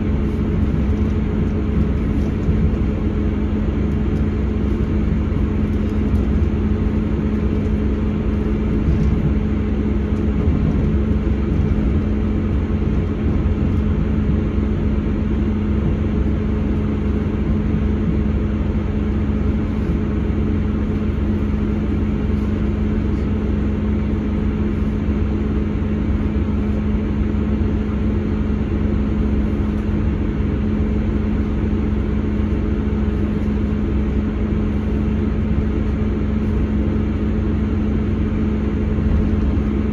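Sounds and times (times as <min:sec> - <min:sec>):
diesel engine humming: 0:00.0 - 0:39.9
train wheels rumbling on track: 0:00.0 - 0:39.9.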